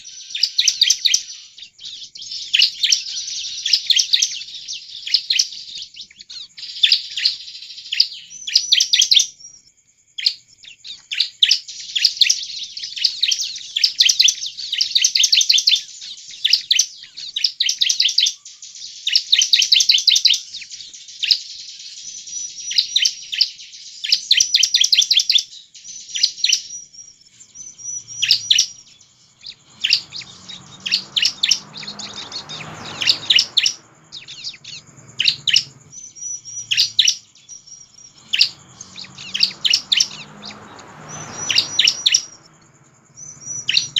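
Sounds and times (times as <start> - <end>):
bird chirping song: 0.0 - 43.9.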